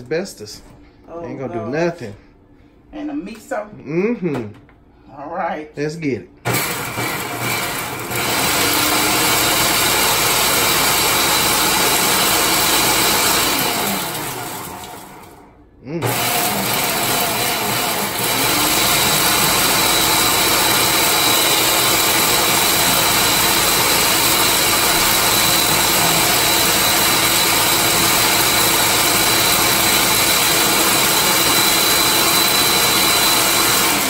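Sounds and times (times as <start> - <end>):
food processor motor whine: 6.5 - 34.0.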